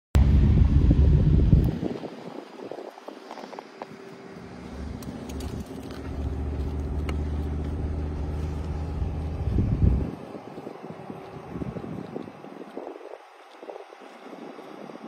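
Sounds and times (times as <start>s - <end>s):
vehicle engine running: 0.2s - 15.0s.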